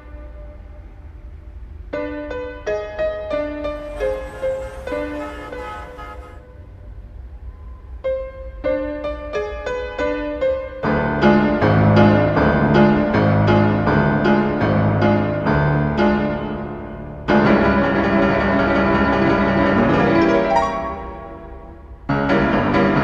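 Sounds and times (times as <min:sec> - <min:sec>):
piano chords: 0:00.0 - 0:06.9, 0:08.0 - 0:23.0.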